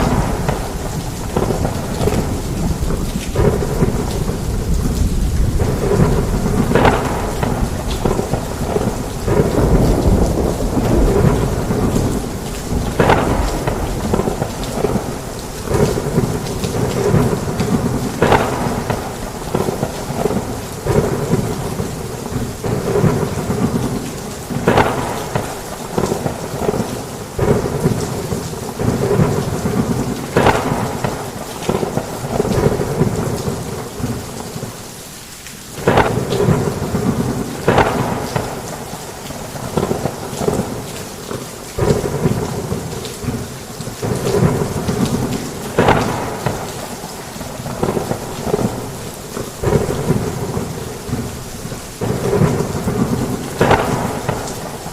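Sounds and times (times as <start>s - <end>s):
low rumbling thunder: 0.0s - 34.8s, 35.8s - 40.9s, 41.8s - 54.9s
heavy rain: 0.0s - 54.9s.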